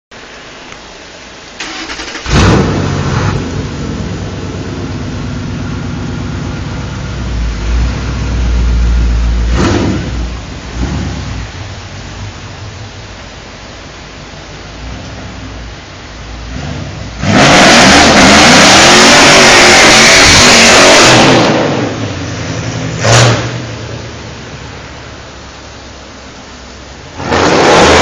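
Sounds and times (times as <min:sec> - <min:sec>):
car engine starting and idling: 0:00.2 - 0:28.0.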